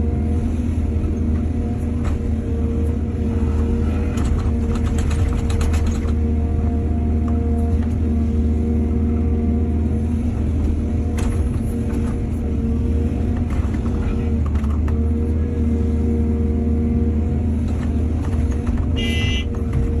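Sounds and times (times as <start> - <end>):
heavy machinery engine running: 0.0 - 20.0.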